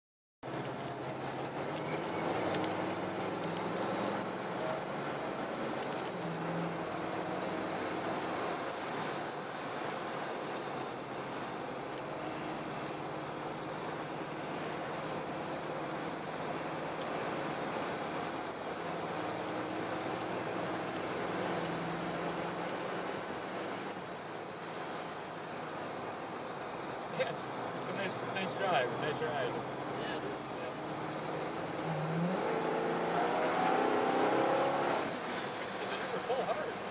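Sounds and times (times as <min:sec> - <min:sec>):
car engine and road noise: 0:00.4 - 0:36.9
faint high whine: 0:00.5 - 0:36.9.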